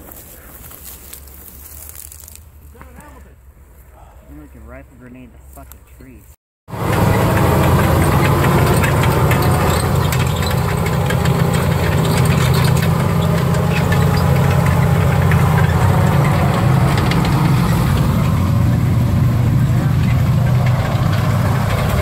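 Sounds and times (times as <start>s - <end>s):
tank engine rumbling: 0.0s - 22.0s
tracks clattering: 4.4s - 22.0s.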